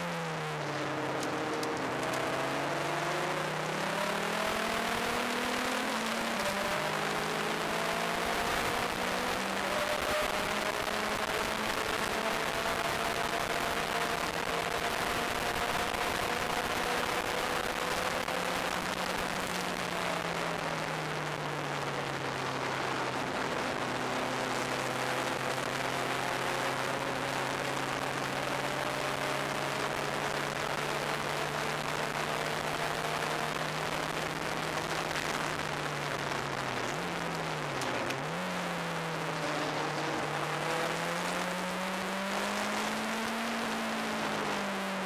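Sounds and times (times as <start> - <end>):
turbocharged car engine: 0.0 - 45.0.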